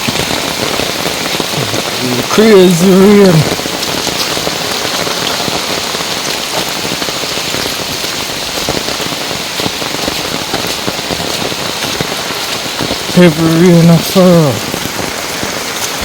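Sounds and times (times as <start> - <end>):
heavy rain hiss: 0.0 - 16.0
raindrops pattering on umbrella: 0.0 - 16.0.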